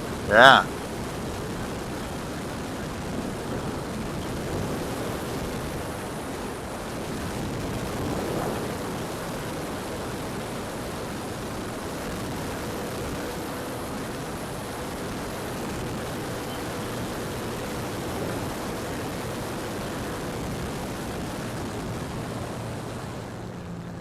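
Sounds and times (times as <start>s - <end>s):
aircraft engine drone: 0.0s - 24.0s
faint steady hum: 0.0s - 24.0s
steady rushing noise: 0.0s - 24.0s.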